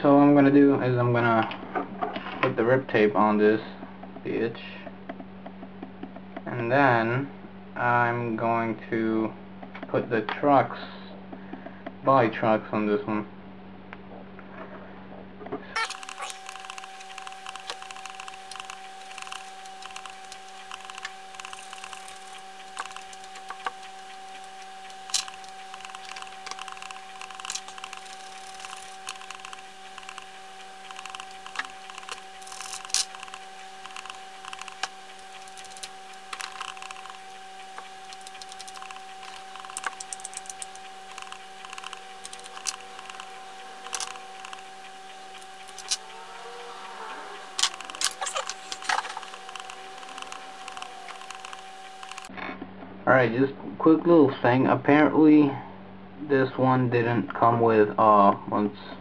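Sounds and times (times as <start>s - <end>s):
steady electrical hum: 0.0s - 59.0s.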